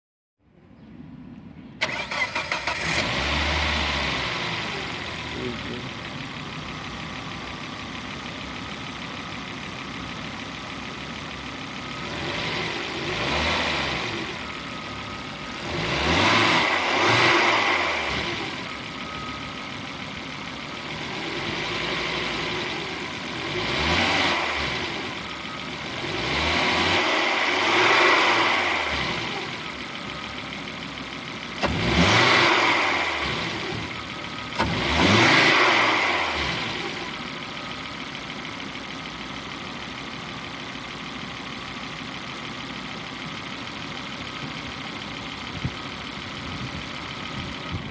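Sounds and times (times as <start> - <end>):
car engine idling and revving: 0.4 - 47.9.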